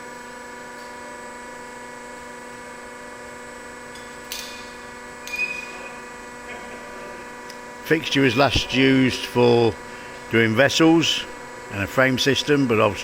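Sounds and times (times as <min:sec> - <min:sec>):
electrical hum of machinery: 0:00.0 - 0:13.0.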